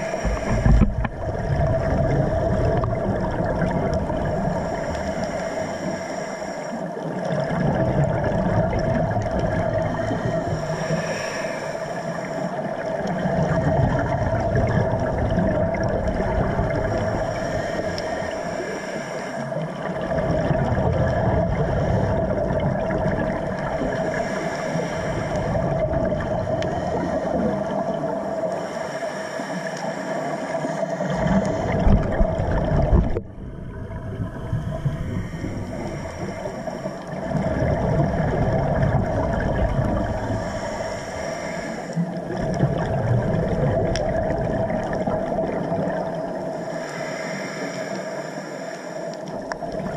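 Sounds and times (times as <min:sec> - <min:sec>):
steady hum: 0:00.0 - 0:49.9
underwater bubbling and hissing: 0:00.0 - 0:49.9.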